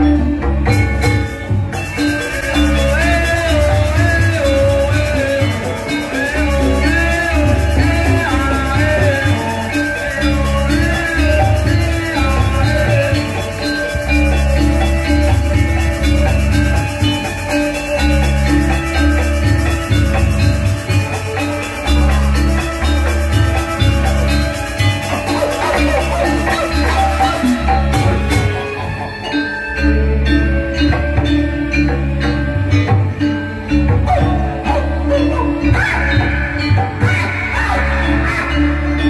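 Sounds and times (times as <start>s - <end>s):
gliding melody line: 0.0s - 39.0s
metallophones ringing: 0.0s - 39.0s.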